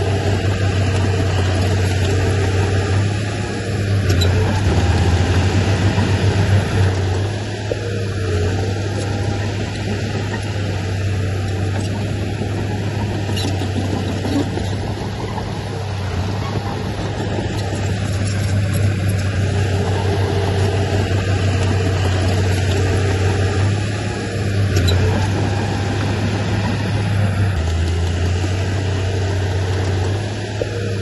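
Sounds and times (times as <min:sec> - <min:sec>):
diesel machinery engine drone: 0:00.0 - 0:31.0.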